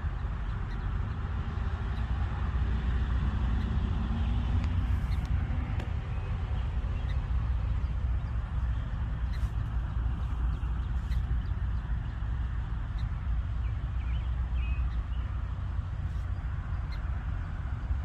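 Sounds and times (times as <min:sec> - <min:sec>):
road traffic rumble: 0:00.0 - 0:18.0
passing vehicle engine: 0:00.1 - 0:18.0.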